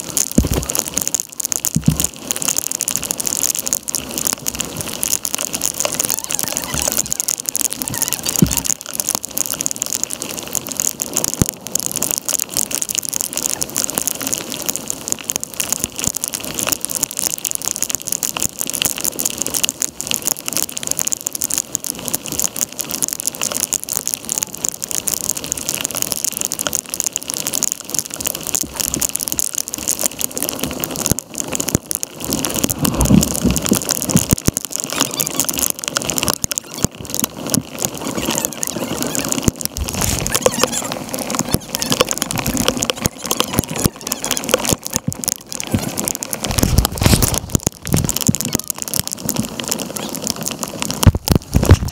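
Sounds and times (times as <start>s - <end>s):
heavy rain on water: 0.0s - 51.9s.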